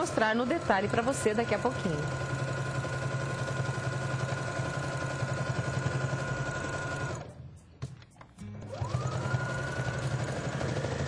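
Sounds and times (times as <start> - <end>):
sewing machine stitching: 0.0 - 7.3, 8.6 - 11.0.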